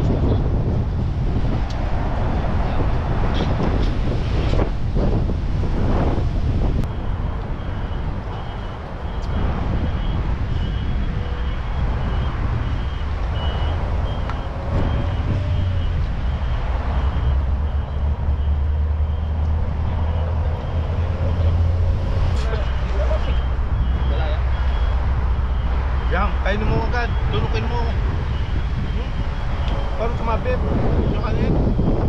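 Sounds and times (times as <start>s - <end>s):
engine rumble: 0.0s - 32.0s.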